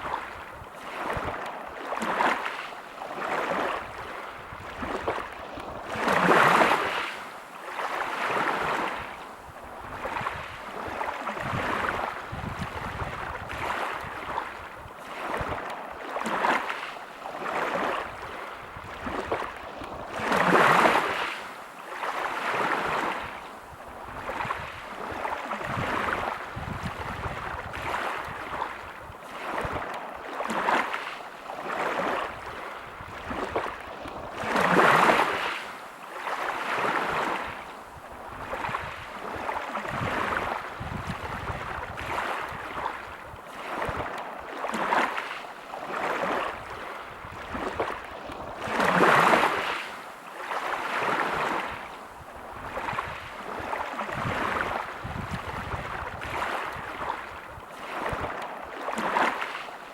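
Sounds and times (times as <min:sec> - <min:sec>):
waves breaking on pebble beach: 0:00.0 - 0:23.4, 0:24.1 - 0:37.7, 0:38.4 - 0:59.8.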